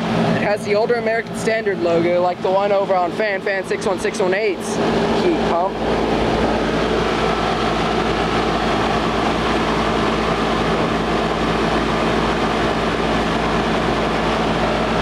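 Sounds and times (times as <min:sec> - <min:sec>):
fan blowing air: 0:00.0 - 0:15.0
steady hum: 0:00.0 - 0:15.0.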